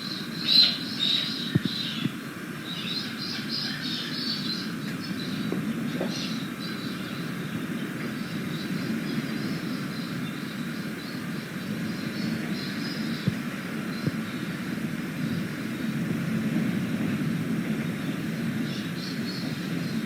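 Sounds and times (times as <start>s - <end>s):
birds chirping: 0.0s - 16.0s, 17.8s - 20.0s.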